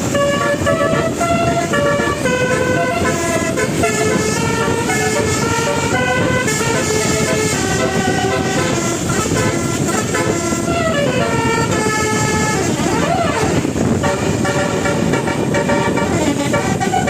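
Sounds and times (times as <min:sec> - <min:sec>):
loud steady rumble: 0:00.0 - 0:17.0
multi-trumpet bus horn melody: 0:00.0 - 0:17.0.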